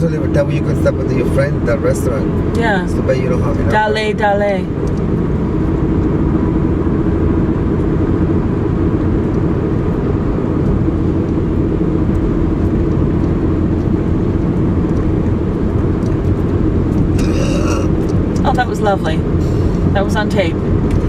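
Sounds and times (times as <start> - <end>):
constant low hum: 0.0 - 21.0
vehicle engine and road noise: 0.0 - 21.0.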